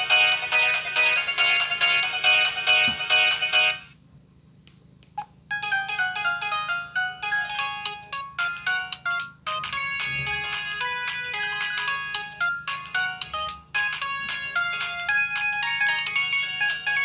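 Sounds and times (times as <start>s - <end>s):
electronic ringtone melody: 0.0s - 3.9s, 5.5s - 17.0s.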